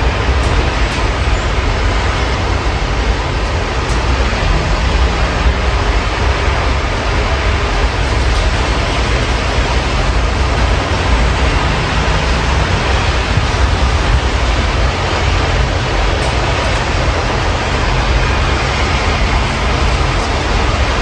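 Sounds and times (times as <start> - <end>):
low city rumble: 0.0 - 21.0
steady rain: 0.0 - 21.0.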